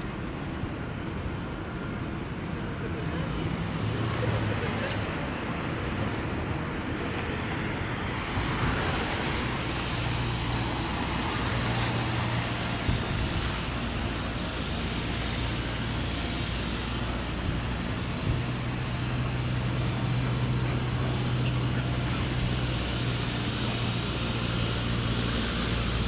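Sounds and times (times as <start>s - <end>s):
cars driving past: 0.0s - 26.0s.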